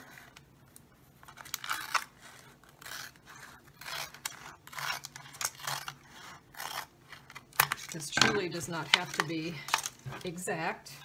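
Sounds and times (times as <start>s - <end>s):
scissors snipping plastic: 1.3s - 10.3s.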